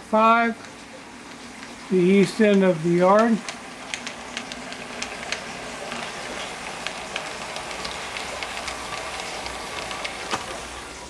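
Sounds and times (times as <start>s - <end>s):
model locomotive rumbling hiss: 1.9s - 11.0s.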